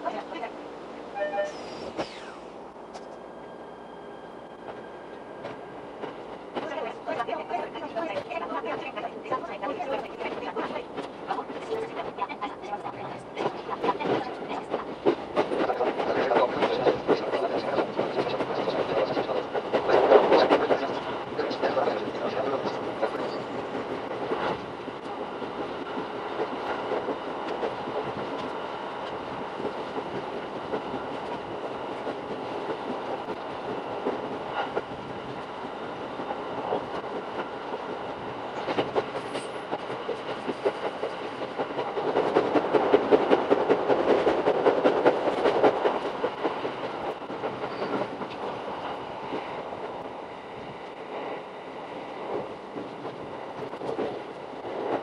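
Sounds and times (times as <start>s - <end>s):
train rumbling rush: 0.0s - 55.0s.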